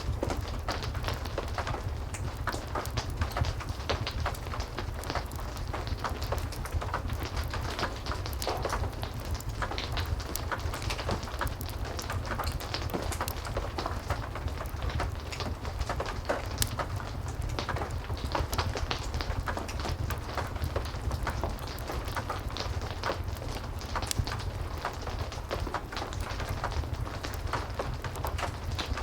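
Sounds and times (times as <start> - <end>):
heavy rain falling: 0.0 - 29.0
wood fire crackling: 0.0 - 29.0.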